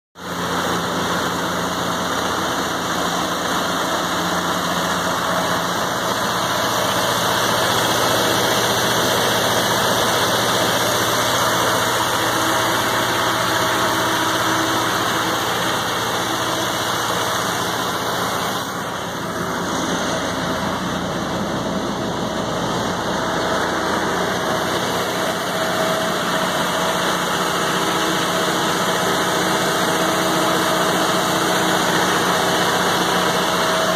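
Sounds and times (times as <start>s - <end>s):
diesel generator running: 0.2s - 33.9s.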